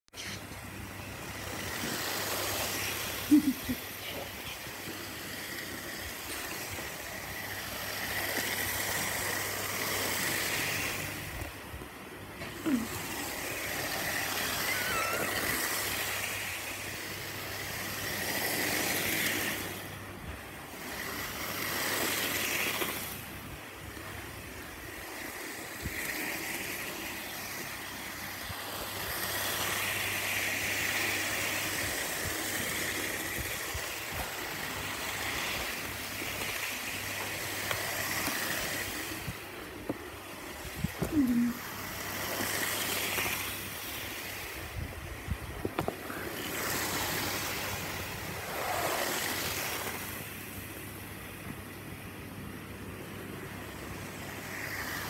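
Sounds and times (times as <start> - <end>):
model train rolling on track: 0.2 - 55.0.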